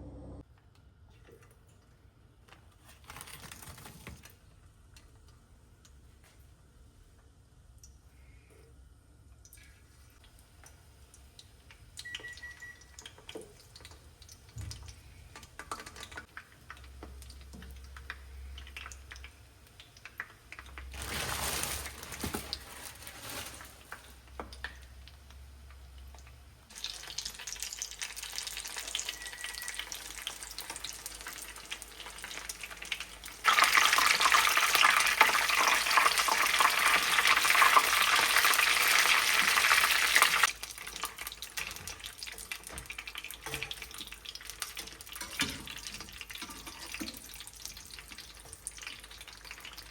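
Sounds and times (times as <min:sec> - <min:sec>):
food deep-frying in hot oil: 0:02.9 - 0:49.9.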